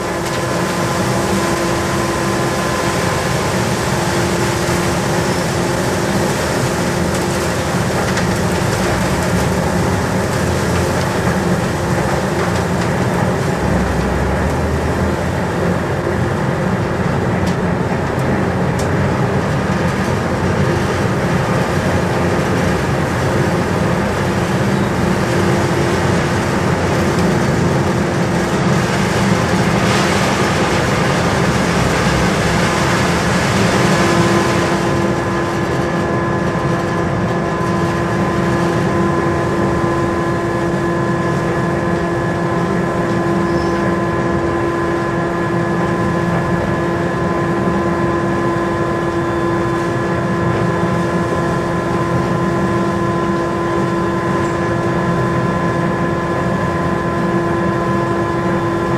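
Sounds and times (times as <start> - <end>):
heavy machine rumble: 0.0 - 58.9
steady machine whine: 0.0 - 58.9.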